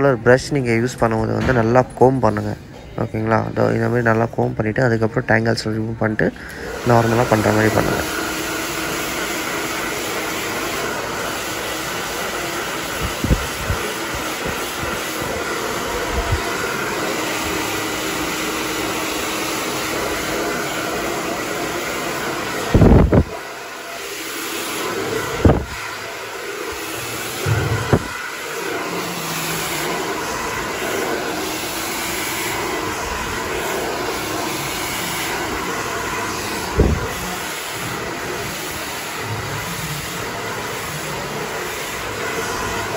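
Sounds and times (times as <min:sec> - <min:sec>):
hair dryer blowing: 0:06.1 - 0:42.9.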